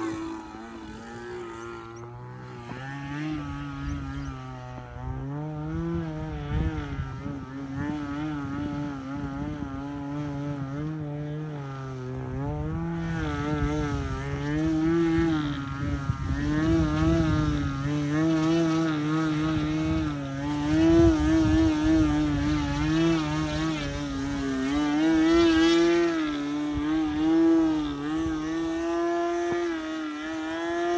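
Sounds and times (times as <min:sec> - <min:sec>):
model plane engine droning: 0:00.0 - 0:30.9.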